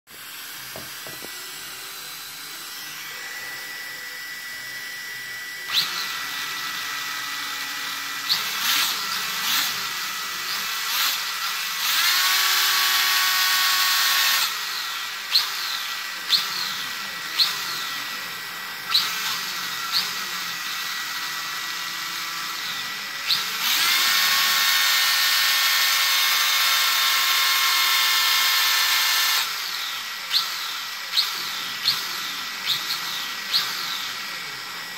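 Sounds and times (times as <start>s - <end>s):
rc car motor revving: 0.1s - 34.9s.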